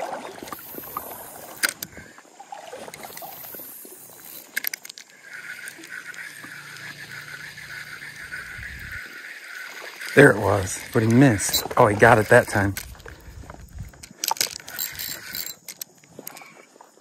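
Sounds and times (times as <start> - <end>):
water sloshing: 0.0 - 16.3
fishing reel whirring: 0.2 - 16.6
spinning reel clicks: 0.4 - 2.0, 2.9 - 13.3, 13.9 - 16.5.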